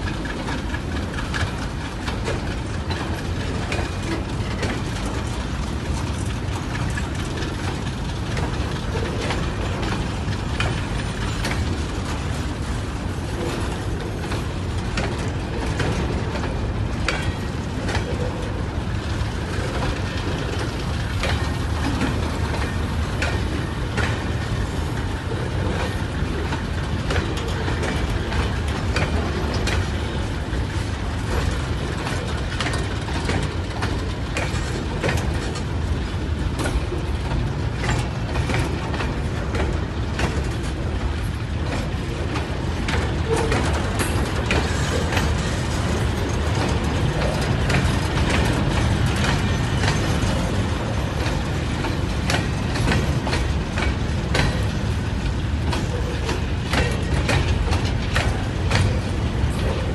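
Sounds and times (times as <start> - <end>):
train wheels rumbling on rail: 0.0 - 59.9
wagons clicking and clattering: 0.0 - 59.9.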